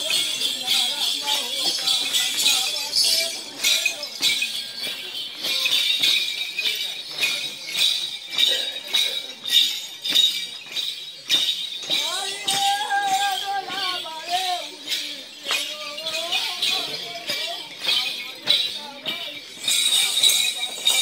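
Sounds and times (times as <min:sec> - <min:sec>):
crowd voices: 0:00.0 - 0:21.0
metallic jingling in steady beat: 0:00.0 - 0:21.0.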